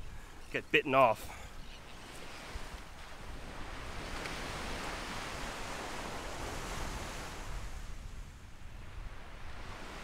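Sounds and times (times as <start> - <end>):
small waves breaking on sand: 0.8 - 10.0
wind rumbling on microphone: 1.5 - 10.0.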